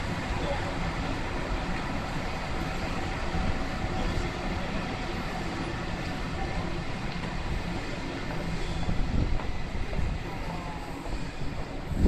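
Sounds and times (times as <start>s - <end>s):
city street noise: 0.0s - 12.0s
electric train running past: 0.0s - 12.0s.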